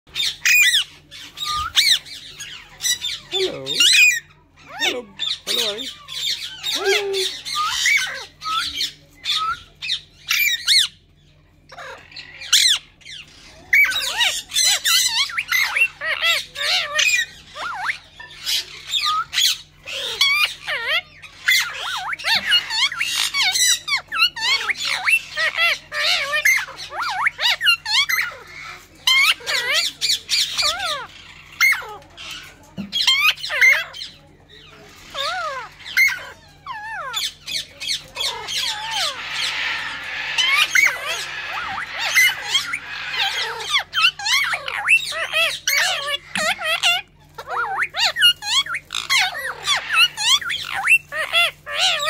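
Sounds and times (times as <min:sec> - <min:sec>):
parakeet chattering and squawking: 0:00.1 - 0:52.0.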